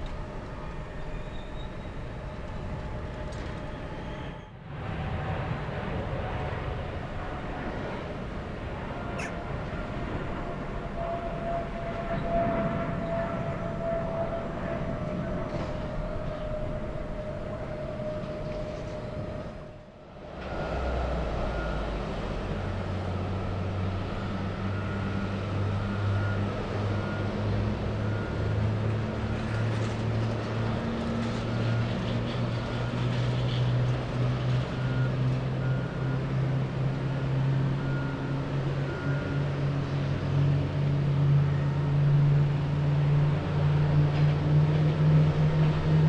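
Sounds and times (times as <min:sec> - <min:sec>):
jet engines climbing: 0:00.0 - 0:46.0
tow tractor diesel engine: 0:06.6 - 0:46.0.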